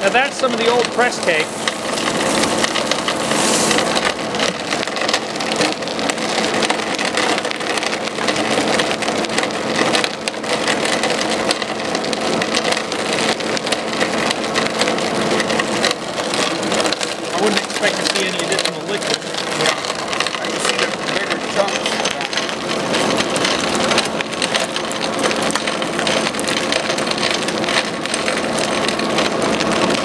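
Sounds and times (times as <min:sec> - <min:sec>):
nut shells crackling in screw press: 0:00.0 - 0:30.0.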